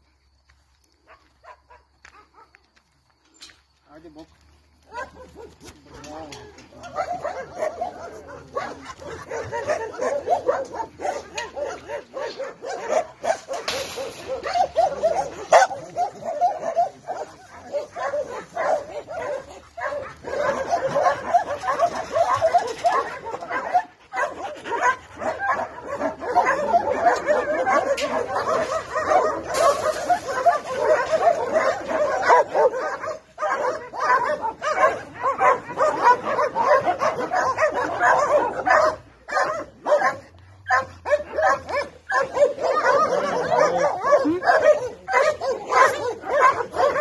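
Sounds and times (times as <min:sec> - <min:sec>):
dogs barking and yipping: 0:01.0 - 0:02.8, 0:04.8 - 0:47.0.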